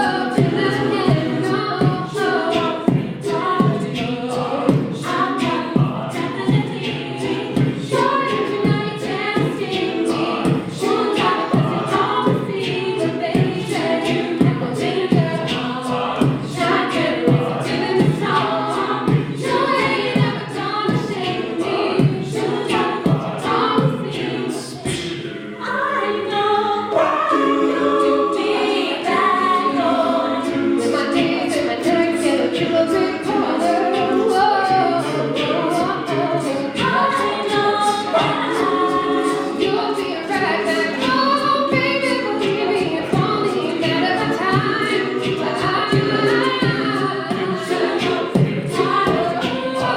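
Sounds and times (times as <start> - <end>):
a cappella group singing: 0.0 - 49.9
vocal percussive beat: 0.0 - 49.9.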